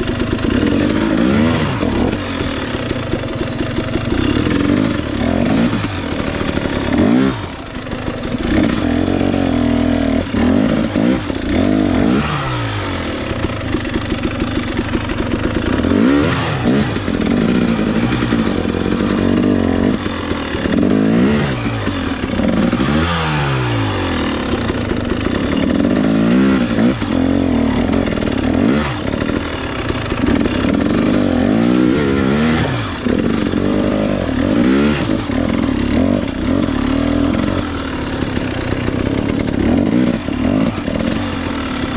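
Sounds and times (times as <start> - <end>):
motorcycle clatter: 0.0 - 41.9
motorcycle engine revving: 0.0 - 41.9.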